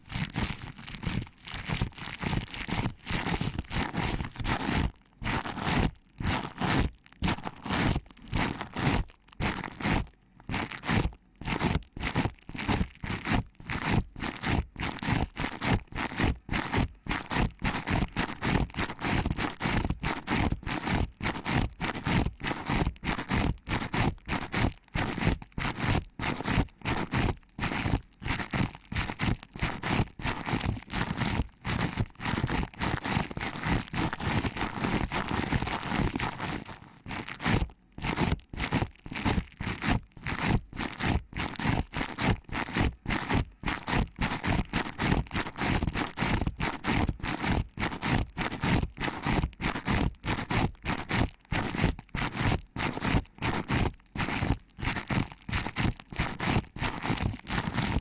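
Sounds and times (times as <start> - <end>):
fingers rustling on microphone: 0.0 - 58.0.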